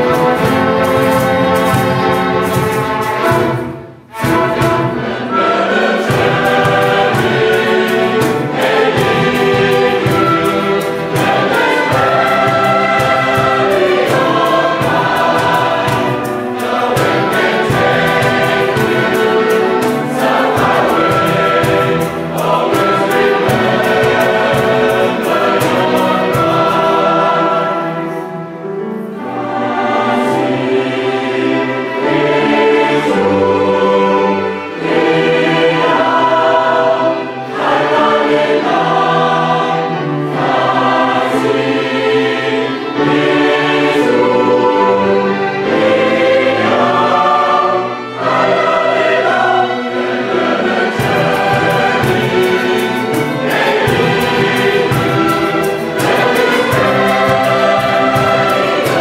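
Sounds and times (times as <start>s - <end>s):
mixed choir singing: 0.0s - 59.0s
string orchestra: 0.0s - 59.0s.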